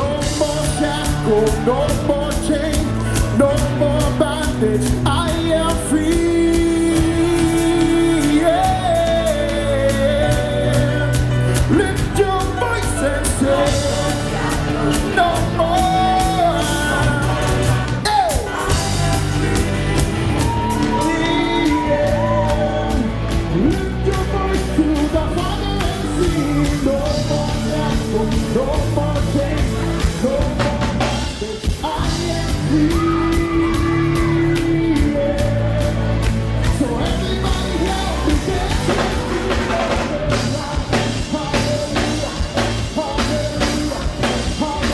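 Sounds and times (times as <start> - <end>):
crowd shouting and whooping: 0.0 - 4.5, 5.1 - 30.5, 32.1 - 44.9
live band playing: 0.0 - 44.9
voices singing: 0.0 - 44.9.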